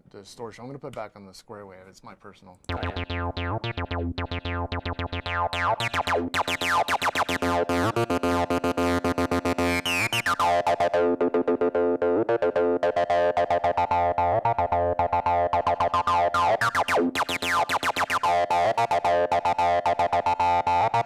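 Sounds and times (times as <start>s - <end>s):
overdriven acid synth bassline: 2.7s - 21.0s.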